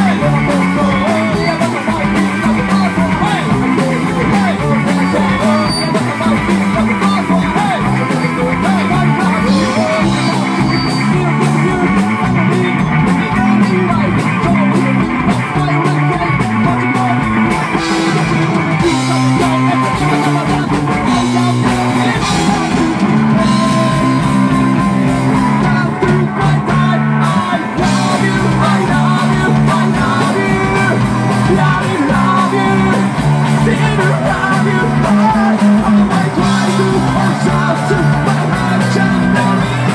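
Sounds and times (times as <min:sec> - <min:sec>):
drums: 0:00.0 - 0:39.9
electric bass line: 0:00.0 - 0:39.9
person singing: 0:00.0 - 0:39.9
rock band playing live: 0:00.0 - 0:39.9.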